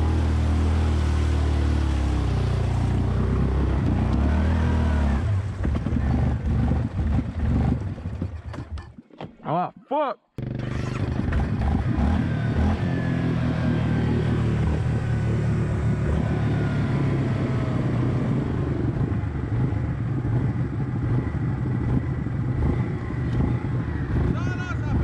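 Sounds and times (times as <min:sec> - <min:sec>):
engine running under throttle: 0:00.0 - 0:08.9, 0:10.4 - 0:25.0.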